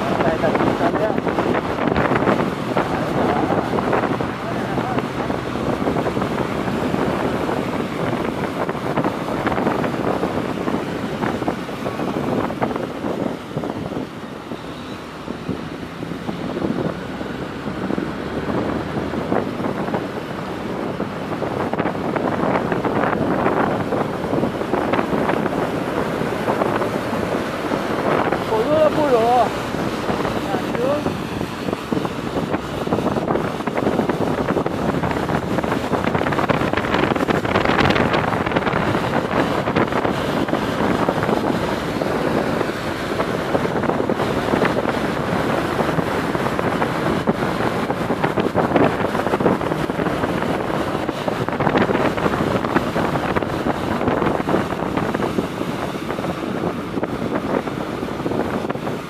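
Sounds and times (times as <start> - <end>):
loud rushing noise: 0.0 - 59.0
wind buffeting microphone: 0.0 - 59.0.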